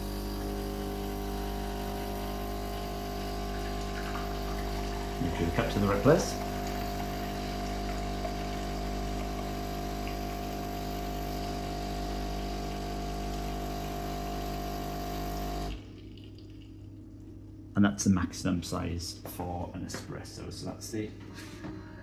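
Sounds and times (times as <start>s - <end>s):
coffee machine pump humming: 0.0s - 17.7s.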